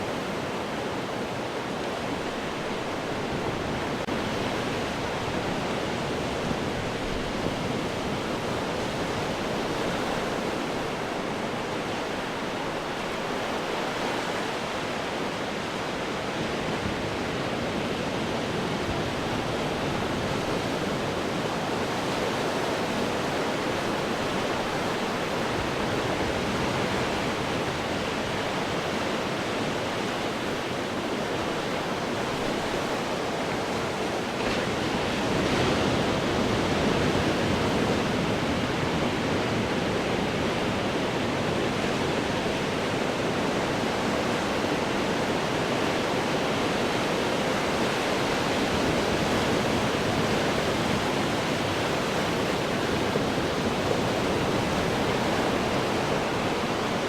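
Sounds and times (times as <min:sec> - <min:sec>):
ocean waves breaking on rocks: 0:00.1 - 0:57.0.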